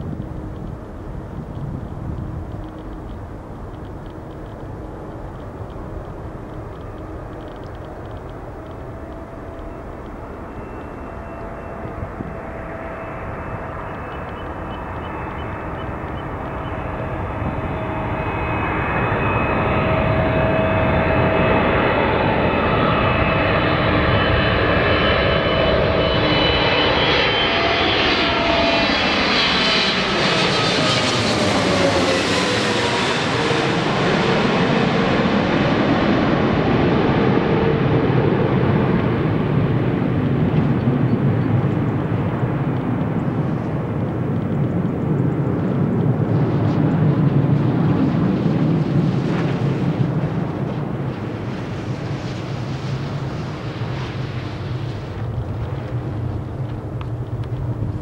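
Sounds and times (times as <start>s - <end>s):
jet engines on approach: 0.0s - 58.0s.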